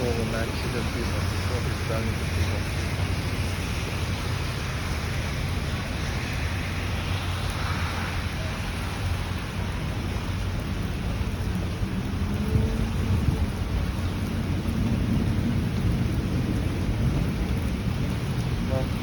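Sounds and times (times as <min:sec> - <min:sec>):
heavy rain falling: 0:00.0 - 0:19.0
low thunder rumble: 0:00.0 - 0:19.0.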